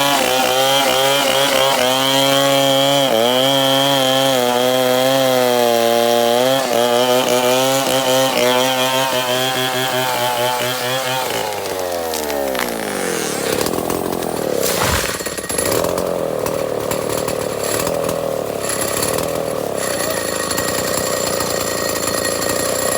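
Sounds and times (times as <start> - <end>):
chainsaw running: 0.0 - 22.9.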